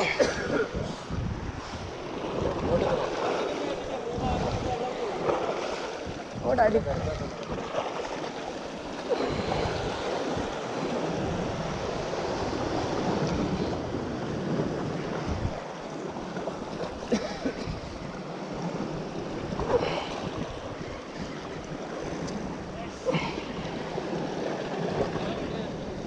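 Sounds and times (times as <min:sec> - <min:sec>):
sea waves washing against rocks: 0:00.0 - 0:26.0
wind rumbling on microphone: 0:00.0 - 0:26.0.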